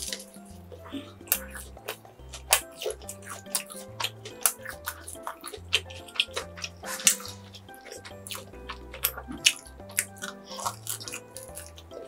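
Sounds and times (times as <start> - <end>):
background music with bass line: 0.0 - 12.0
chewing bread: 0.0 - 12.0
wet mouth clicks: 0.0 - 12.0.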